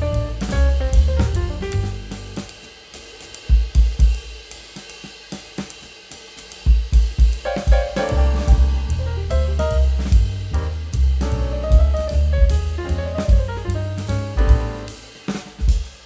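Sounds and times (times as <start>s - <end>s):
instrumental music with drums: 0.0s - 16.0s.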